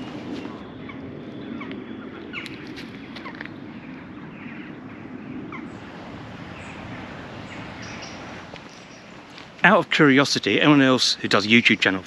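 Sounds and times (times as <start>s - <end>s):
birds chirping: 0.0s - 12.0s
low outdoor hum: 0.0s - 12.0s.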